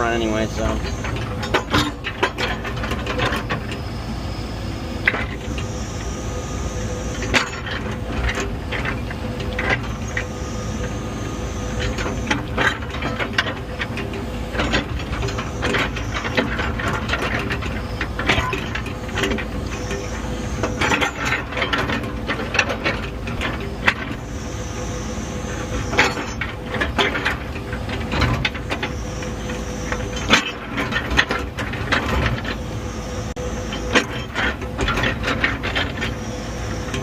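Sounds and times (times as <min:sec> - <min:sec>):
machine clanks and creaks: 0:00.0 - 0:03.9, 0:07.1 - 0:11.0, 0:11.7 - 0:24.4, 0:25.5 - 0:32.7, 0:33.6 - 0:37.0
diesel engine running: 0:00.0 - 0:37.0
high whine: 0:00.0 - 0:37.0.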